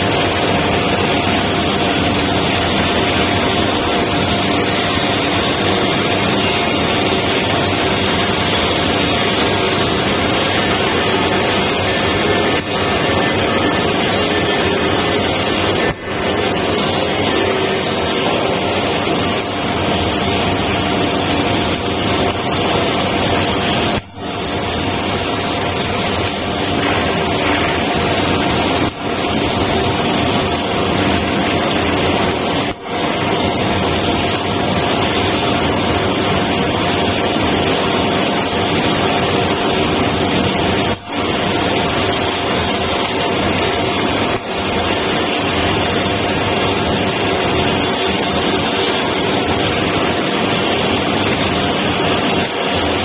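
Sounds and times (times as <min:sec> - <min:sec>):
arc welding hiss: 0:00.0 - 0:53.0.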